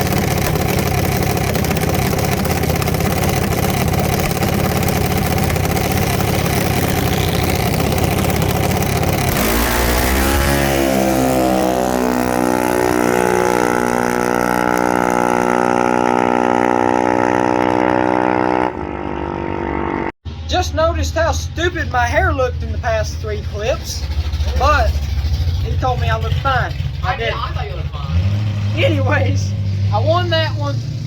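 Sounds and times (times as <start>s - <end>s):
dragster engine revving: 0.0s - 31.0s.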